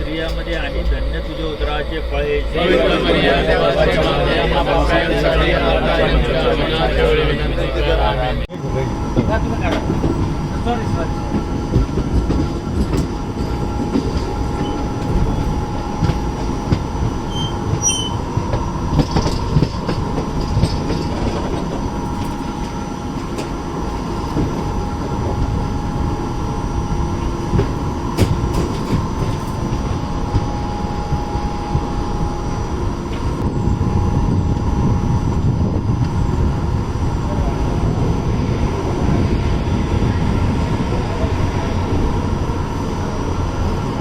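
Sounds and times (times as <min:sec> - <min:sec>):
high whine: 0:00.0 - 0:44.0
train wheels rumbling on rails: 0:00.0 - 0:44.0.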